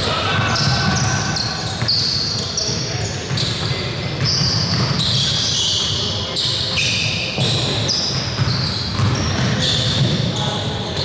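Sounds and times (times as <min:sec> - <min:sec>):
basketball bouncing on court: 0:00.2 - 0:06.0, 0:07.3 - 0:10.4.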